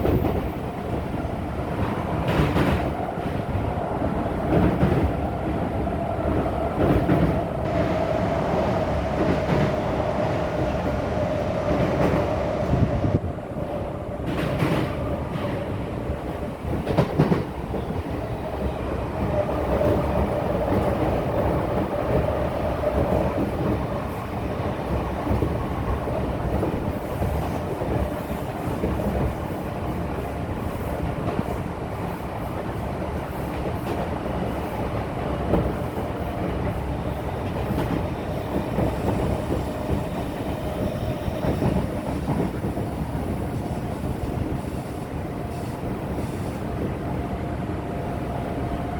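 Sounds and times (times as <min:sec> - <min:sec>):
train rumble: 0:00.0 - 0:48.9.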